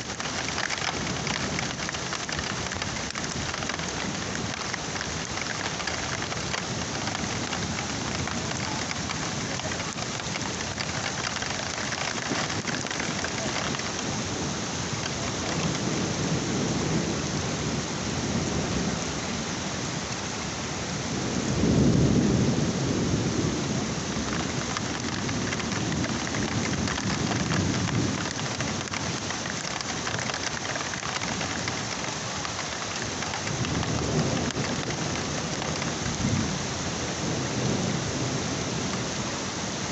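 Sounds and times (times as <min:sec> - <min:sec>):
thunder rumbling: 0:00.0 - 0:19.5, 0:21.0 - 0:39.3
heavy rain pouring: 0:00.0 - 0:39.9.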